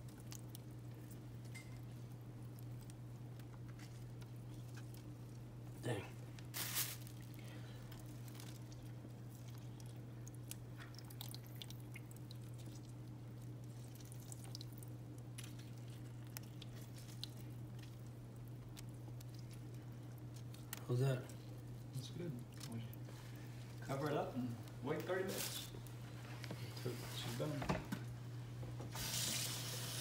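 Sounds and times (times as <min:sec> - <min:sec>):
juice drips and squelches: 0:00.0 - 0:26.8
steady low hum: 0:00.0 - 0:29.0.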